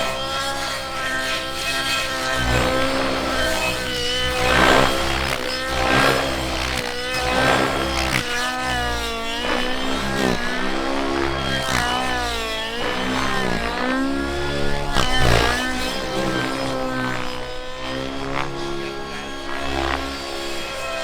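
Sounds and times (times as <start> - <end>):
model aircraft engine high revs: 0.0 - 21.0.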